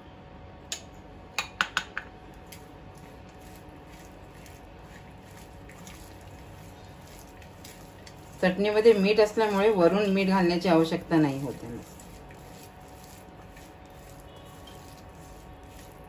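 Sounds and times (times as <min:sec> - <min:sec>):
hand squishing food mixing: 0:02.3 - 0:16.0.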